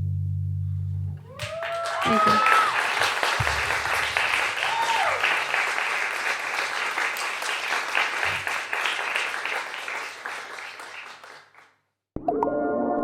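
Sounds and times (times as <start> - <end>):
audience applauding: 1.3 - 11.8.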